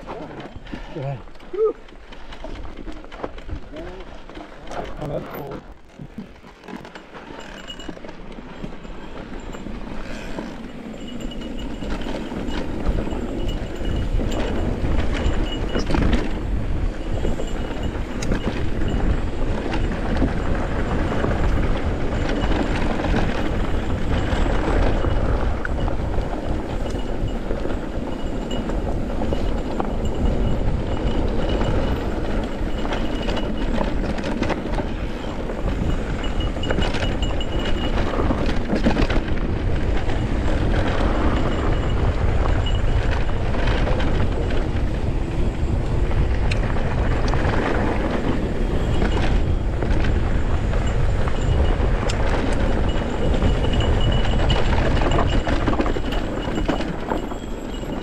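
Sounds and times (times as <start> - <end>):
bike rattling over bumps: 0.0 - 58.0
tyres rumbling over dirt: 0.0 - 58.0.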